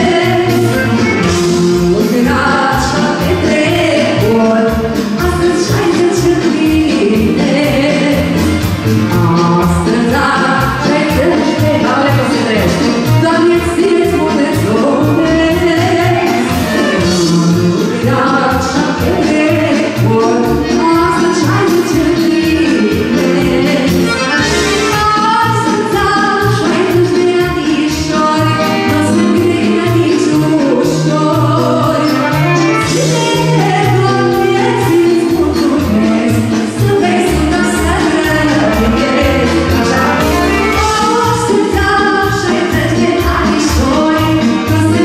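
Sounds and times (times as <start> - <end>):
accordion folk dance music: 0.0 - 45.0
person singing: 0.0 - 45.0.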